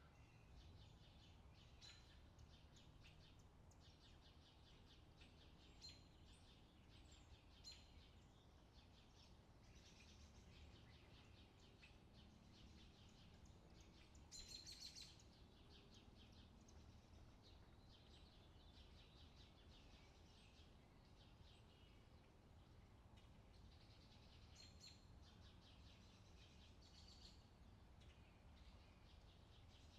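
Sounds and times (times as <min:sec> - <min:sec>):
low background noise: 0:00.0 - 0:29.9.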